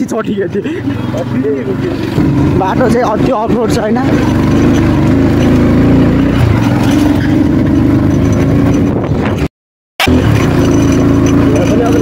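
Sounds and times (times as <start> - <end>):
motorcycle engine under load: 0.0 - 12.0.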